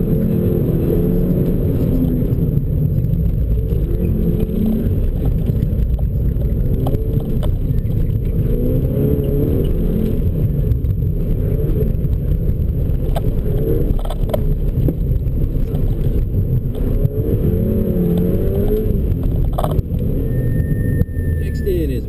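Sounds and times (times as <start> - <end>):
car engine revving: 0.0 - 22.0
road and tyre rumble: 0.0 - 22.0.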